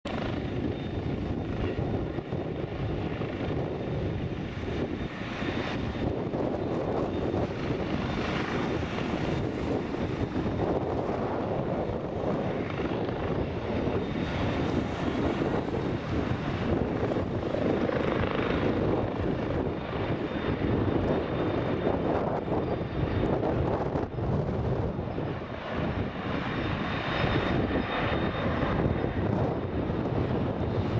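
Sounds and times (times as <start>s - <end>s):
helicopter hovering: 0.0s - 30.9s
jet airliner engine rushing: 0.1s - 30.9s.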